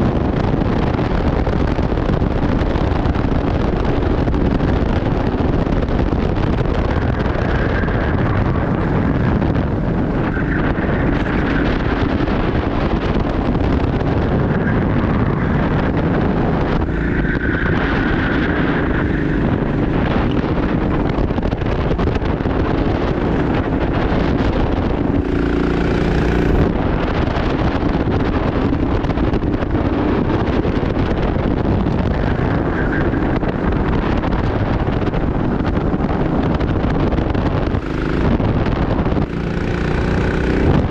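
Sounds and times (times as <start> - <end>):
go-kart engine racing: 0.0 - 40.9
wind buffeting microphone: 0.0 - 40.9.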